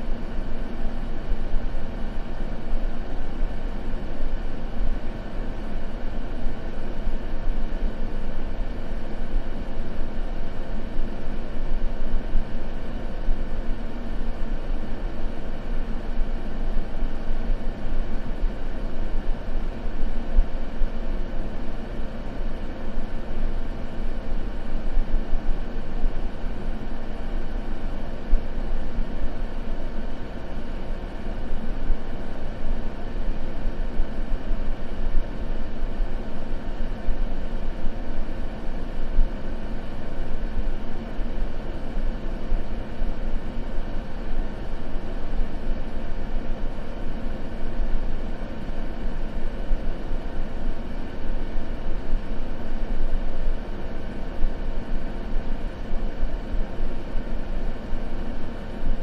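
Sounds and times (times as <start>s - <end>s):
deep white noise: 0.0s - 59.0s.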